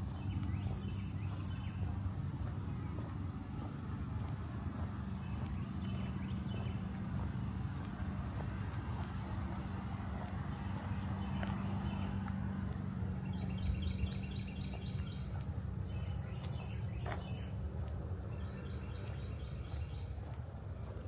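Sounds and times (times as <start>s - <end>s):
low rumble with hum: 0.0s - 21.0s
songbirds chirping: 0.0s - 21.0s.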